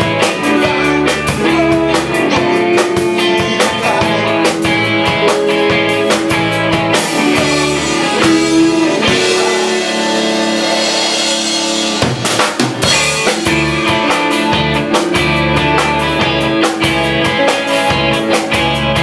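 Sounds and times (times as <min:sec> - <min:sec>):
drum beat: 0:00.0 - 0:19.0
guitar chords ringing: 0:00.0 - 0:19.0
live rock band playing: 0:00.0 - 0:19.0.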